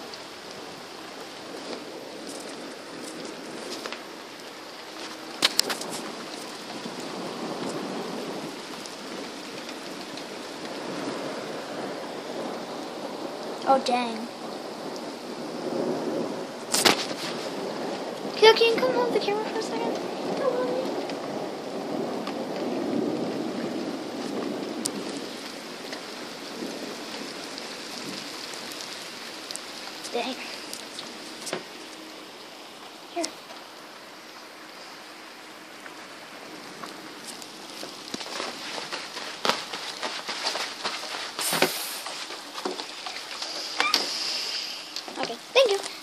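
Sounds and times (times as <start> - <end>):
steady rain falling: 0.0 - 46.0
thunder rumbling: 0.0 - 46.0.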